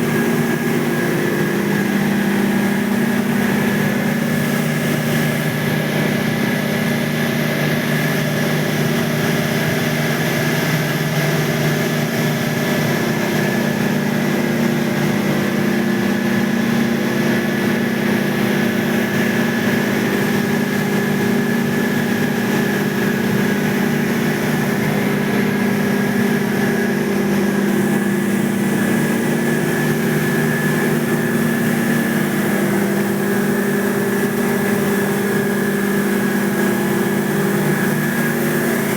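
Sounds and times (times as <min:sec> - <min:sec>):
condensing unit humming: 0:00.0 - 0:38.9.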